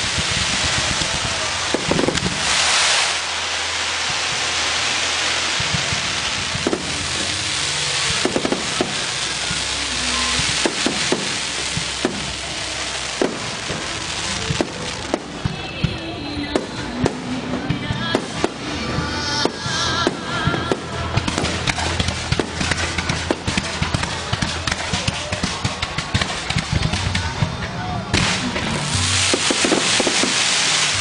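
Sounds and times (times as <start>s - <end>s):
fireworks bangs: 0.0s - 31.0s
fireworks crackling hiss: 0.0s - 31.0s.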